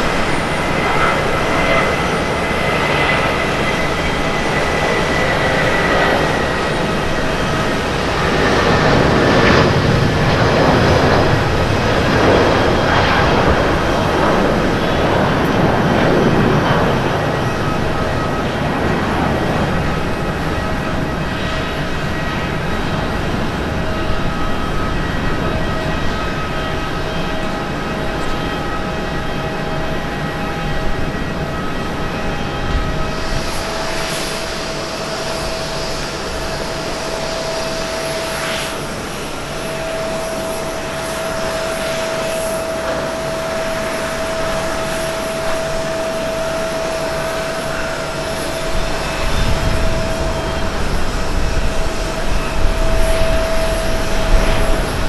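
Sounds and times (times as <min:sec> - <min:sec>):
jet engine whine over roar: 0:00.0 - 0:55.0
jet engines rumbling and whining: 0:00.0 - 0:55.0.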